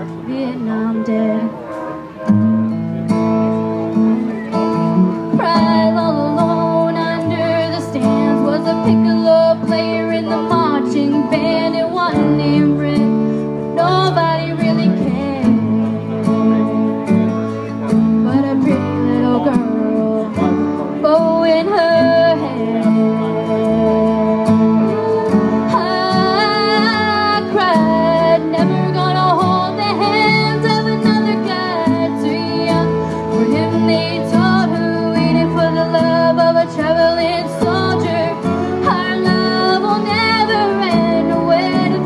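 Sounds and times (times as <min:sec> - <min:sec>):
woman singing into a microphone: 0:00.0 - 0:02.4, 0:05.2 - 0:17.3, 0:18.0 - 0:42.0
country ballad backing track: 0:00.0 - 0:42.0
strummed acoustic guitar: 0:00.0 - 0:42.0.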